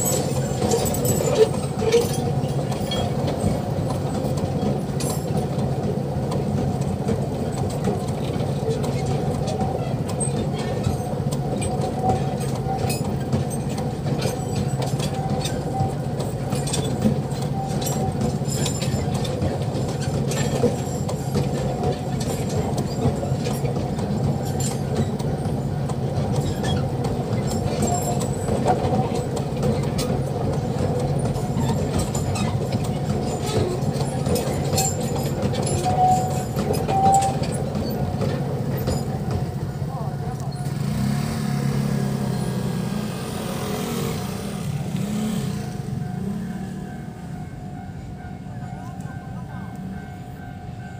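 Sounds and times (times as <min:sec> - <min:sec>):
train wagons rumbling: 0:00.0 - 0:50.9
wheels clicking on rail joints: 0:00.0 - 0:50.9.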